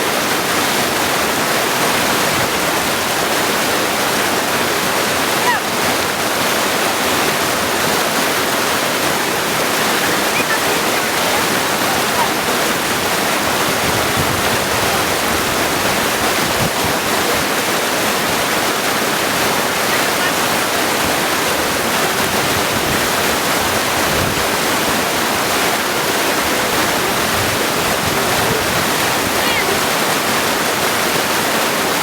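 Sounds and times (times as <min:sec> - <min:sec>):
stream rushing over stones: 0:00.0 - 0:32.0.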